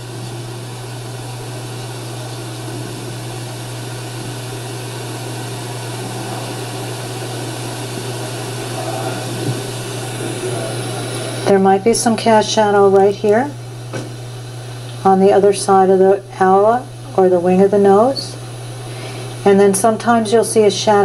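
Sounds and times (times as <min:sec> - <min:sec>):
constant hiss: 0:00.0 - 0:21.0.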